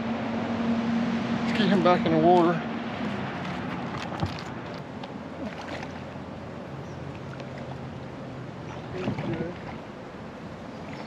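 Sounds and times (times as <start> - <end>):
water splashing: 1.3 - 11.0.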